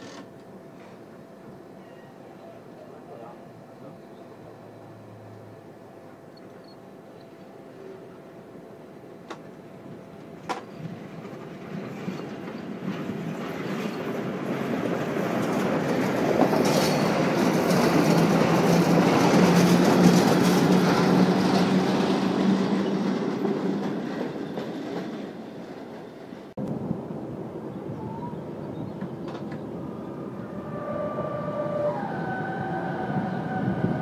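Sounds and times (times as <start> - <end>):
locomotive low hum: 0.0 - 34.0
train rumble on rails: 0.0 - 34.0.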